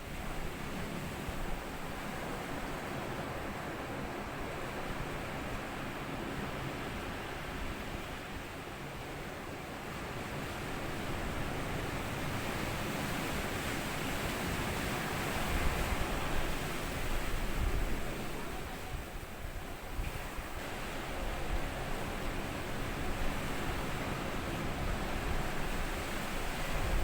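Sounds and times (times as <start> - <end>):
ocean waves washing on beach: 0.0 - 27.0.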